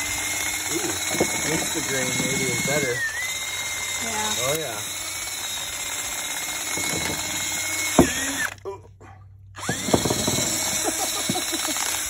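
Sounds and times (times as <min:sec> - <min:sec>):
drill motor whining: 0:00.0 - 0:08.6, 0:09.6 - 0:12.0.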